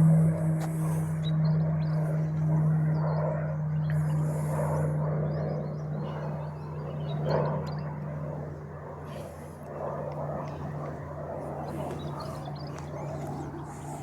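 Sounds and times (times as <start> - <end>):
aircraft engine droning overhead: 0.0 - 14.0.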